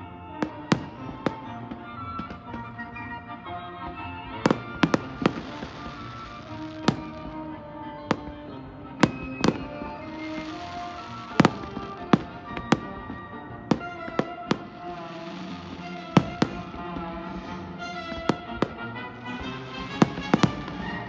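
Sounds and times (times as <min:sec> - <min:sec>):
music playing: 0:00.0 - 0:21.0
fireworks bursting: 0:00.4 - 0:03.0, 0:04.4 - 0:21.0.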